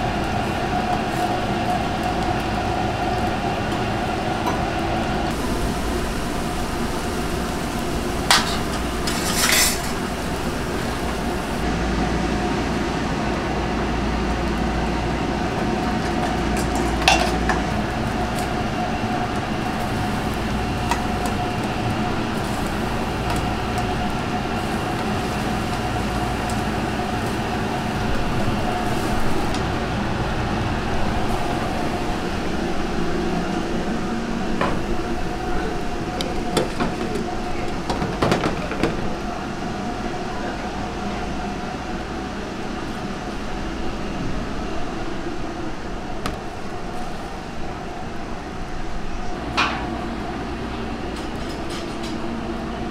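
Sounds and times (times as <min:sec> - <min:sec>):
gas burners and pots boiling: 0:00.0 - 0:52.9.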